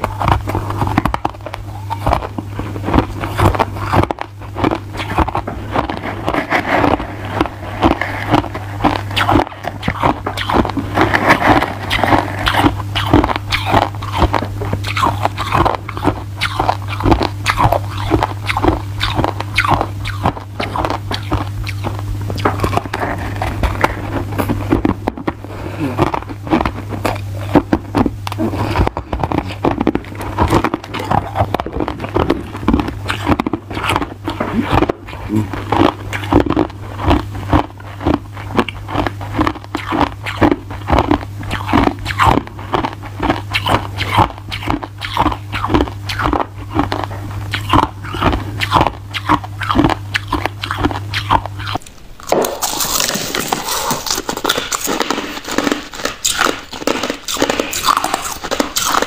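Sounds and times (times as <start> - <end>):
ice crunching while chewed: 0.0 - 59.0.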